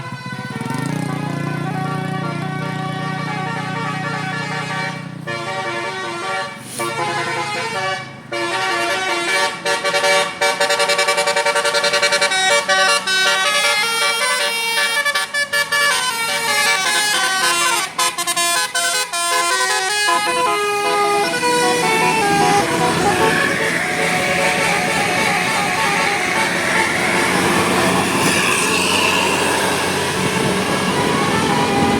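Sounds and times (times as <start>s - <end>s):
musical air horn playing a tune: 0.0s - 31.9s.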